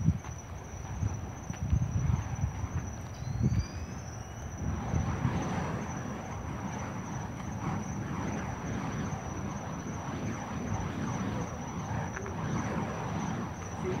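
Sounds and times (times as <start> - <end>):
fire poi whooshing: 0.0 - 14.0.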